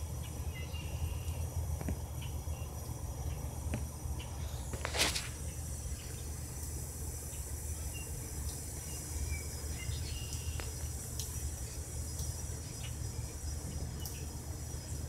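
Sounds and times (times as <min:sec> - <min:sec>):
high hiss: 0:00.0 - 0:15.0.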